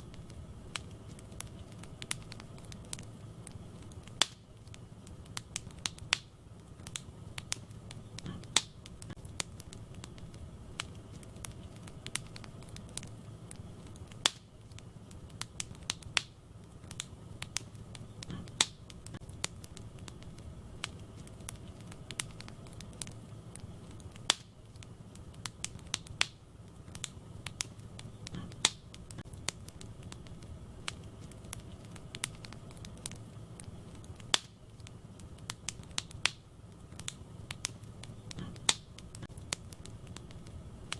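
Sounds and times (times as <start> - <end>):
fire pops and crackles: 0.0 - 40.9
low rumble of flames: 0.0 - 40.9.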